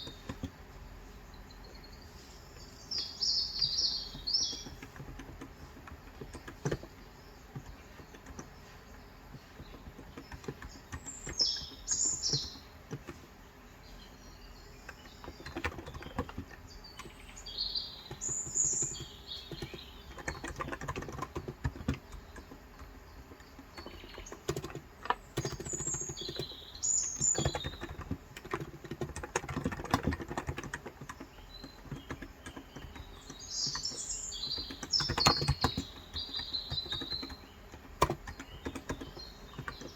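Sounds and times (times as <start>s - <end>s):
typing on a keyboard: 0.0s - 13.5s, 14.6s - 39.9s
birds chirping: 0.0s - 39.9s.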